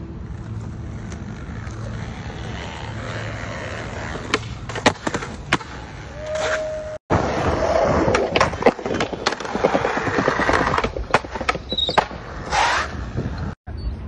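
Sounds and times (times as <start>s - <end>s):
skateboard wheels rolling on stone: 0.2s - 13.6s.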